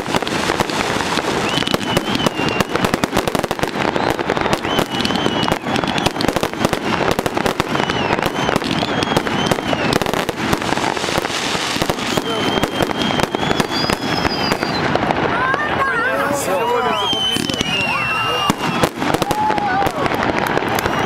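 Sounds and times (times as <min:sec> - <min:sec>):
firework whistles: 0:00.0 - 0:15.1, 0:16.2 - 0:21.0
firework bangs and crackles: 0:00.0 - 0:21.0.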